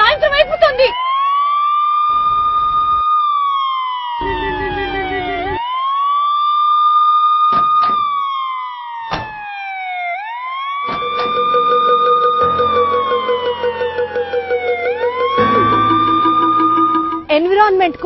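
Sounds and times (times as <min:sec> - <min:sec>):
ambulance siren wailing: 0:00.0 - 0:17.4.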